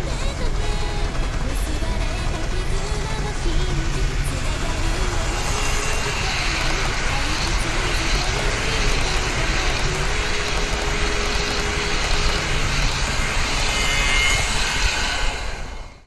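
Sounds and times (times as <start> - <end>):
model train wheels rumbling on rail: 0.0 - 16.0.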